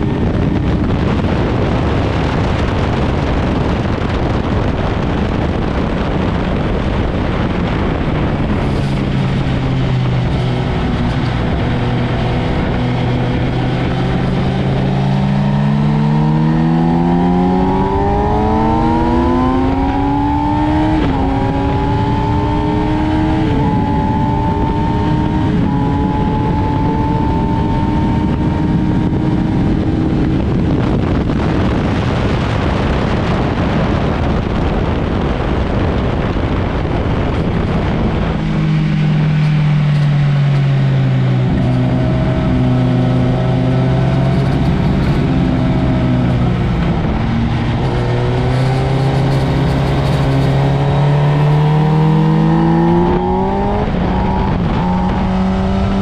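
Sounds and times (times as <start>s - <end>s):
motorcycle engine accelerating: 0.0s - 56.0s
wind roar: 0.0s - 56.0s.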